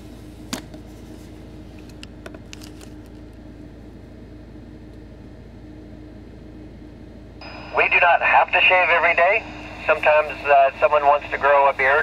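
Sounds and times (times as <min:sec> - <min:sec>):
low hum inside car: 0:00.0 - 0:12.0.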